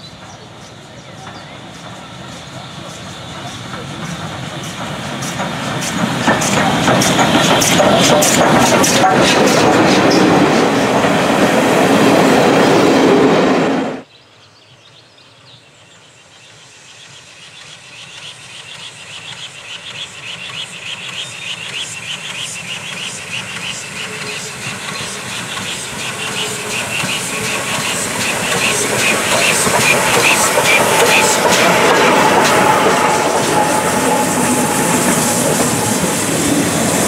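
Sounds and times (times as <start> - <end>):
steam locomotive approaching: 0.0 - 14.1, 15.7 - 37.0
train coaches rolling past: 0.0 - 14.1, 16.4 - 37.0.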